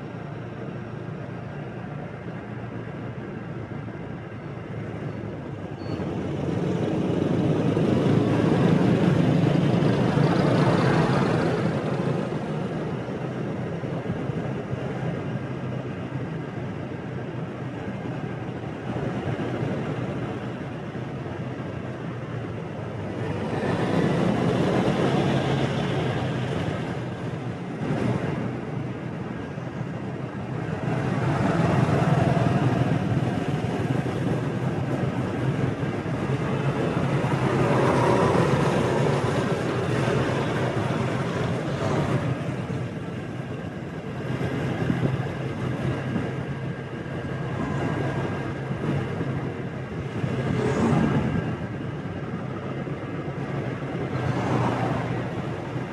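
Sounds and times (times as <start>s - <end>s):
road traffic hum: 0.0s - 55.9s.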